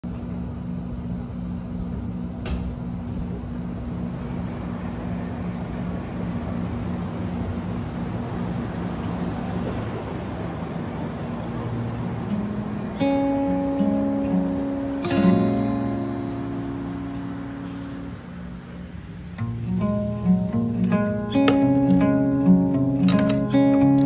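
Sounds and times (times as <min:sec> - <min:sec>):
city traffic rumble: 0:00.0 - 0:24.0
low mechanical hum: 0:00.0 - 0:24.0.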